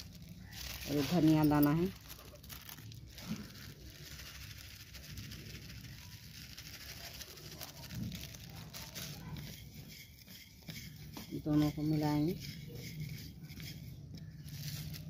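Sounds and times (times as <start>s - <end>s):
seeds pattering into steel bowl: 0.0s - 15.0s.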